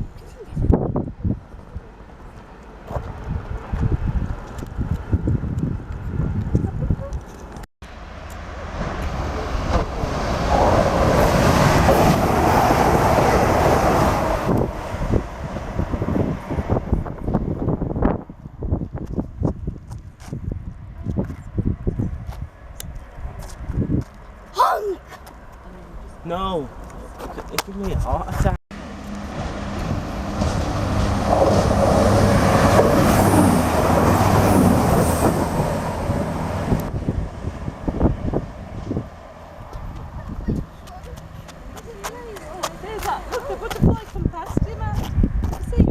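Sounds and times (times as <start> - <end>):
train rumble and rail noise: 0.0 - 24.9, 25.6 - 45.9.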